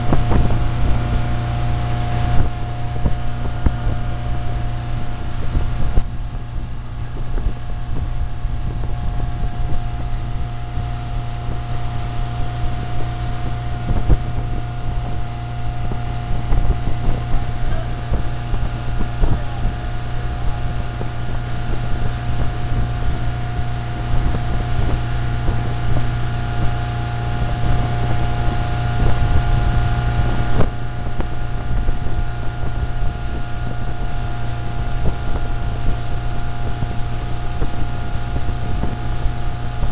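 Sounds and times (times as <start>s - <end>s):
motorboat engine droning: 0.0s - 39.9s
wind buffeting microphone: 0.0s - 39.9s.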